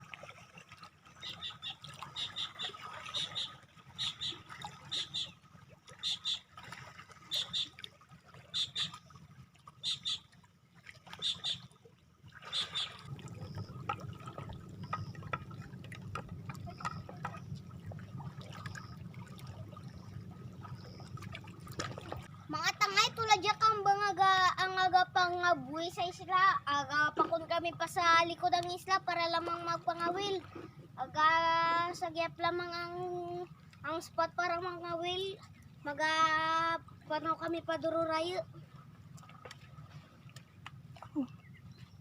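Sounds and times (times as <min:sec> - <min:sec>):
water lapping at shoreline: 0:00.0 - 0:42.0.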